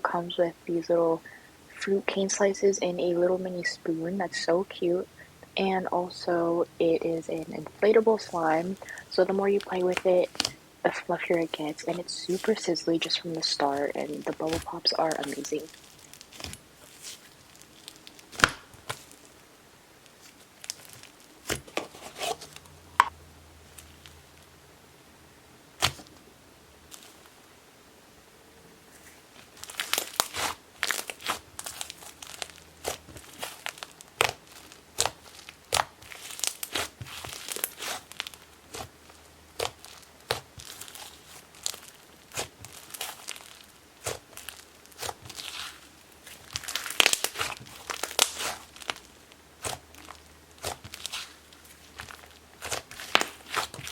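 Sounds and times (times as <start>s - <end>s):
slime sizzly crackle: 0.0s - 24.5s, 26.8s - 27.5s, 28.9s - 53.9s.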